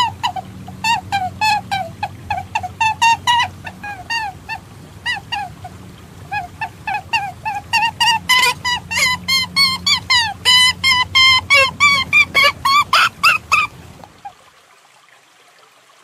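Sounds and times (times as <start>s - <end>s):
recorded animal calls: 0.0s - 14.3s.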